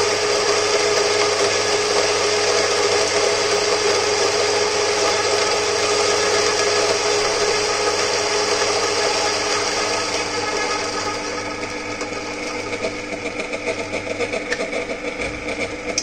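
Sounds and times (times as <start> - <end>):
coffee grinder grinding beans: 0.0 - 16.0
motor hum: 0.0 - 16.0.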